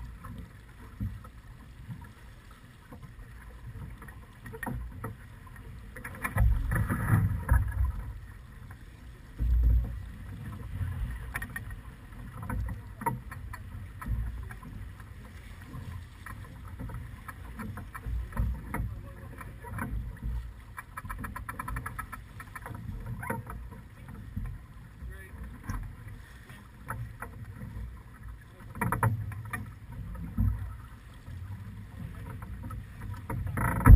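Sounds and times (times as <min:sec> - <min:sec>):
water washing along a hull: 0:00.0 - 0:33.9.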